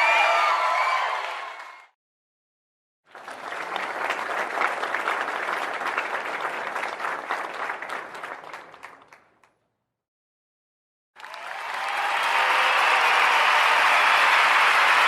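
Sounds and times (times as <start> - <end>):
crowd applauding: 0.0 - 1.9, 3.1 - 9.5, 11.2 - 15.0.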